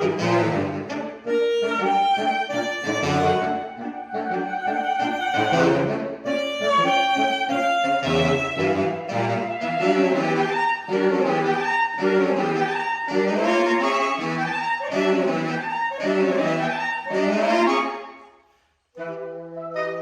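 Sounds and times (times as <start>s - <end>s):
saxophone quartet playing chords: 0.0s - 18.2s, 19.0s - 20.0s.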